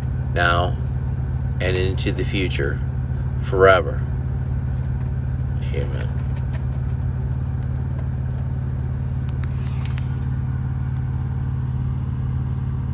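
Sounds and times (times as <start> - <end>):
truck engine humming: 0.0 - 12.9.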